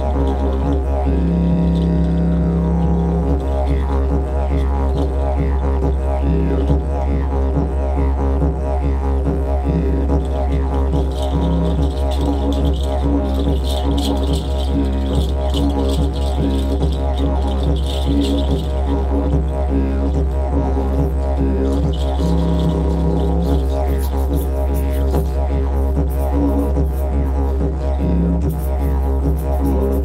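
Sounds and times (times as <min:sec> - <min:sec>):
light hand percussion: 0:00.0 - 0:07.8, 0:08.4 - 0:30.0
didgeridoo drone: 0:00.0 - 0:30.0.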